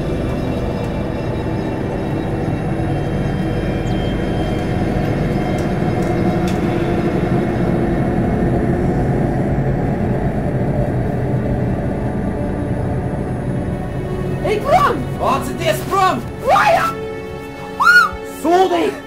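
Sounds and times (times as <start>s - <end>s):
mechanical low rumble: 0.0s - 16.5s.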